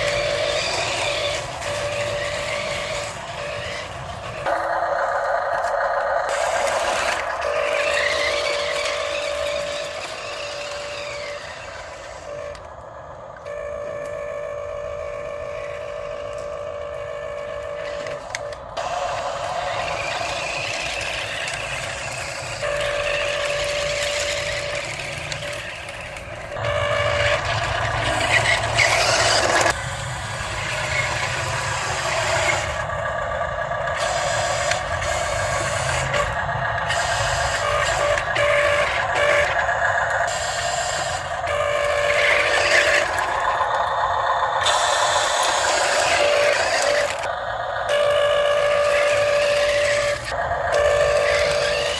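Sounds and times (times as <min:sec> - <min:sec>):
small motors and gears whining: 0:00.0 - 0:51.9.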